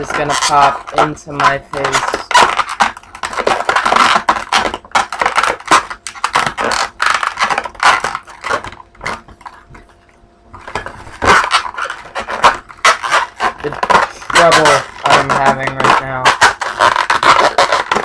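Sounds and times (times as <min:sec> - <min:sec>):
balloons crackling and squeaking: 0:00.0 - 0:18.0.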